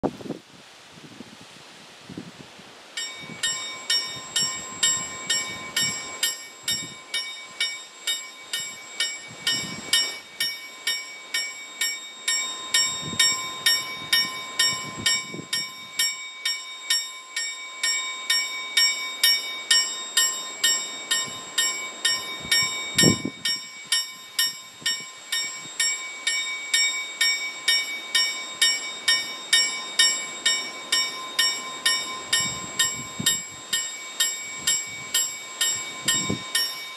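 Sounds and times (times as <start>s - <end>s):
level crossing warning bell: 3.0s - 36.9s.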